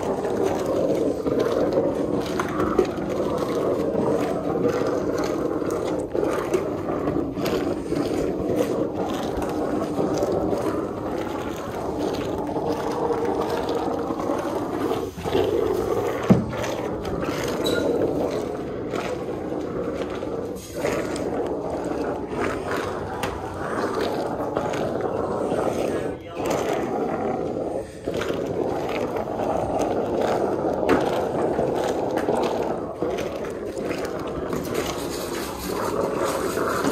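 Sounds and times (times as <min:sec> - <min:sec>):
foam brush scrubbing car: 0:00.0 - 0:36.9.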